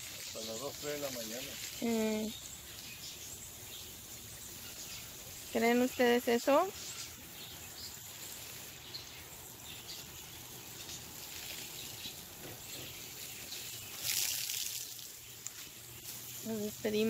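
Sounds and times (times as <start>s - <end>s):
insects: 0.0s - 17.0s
water spraying from hose: 0.0s - 17.0s.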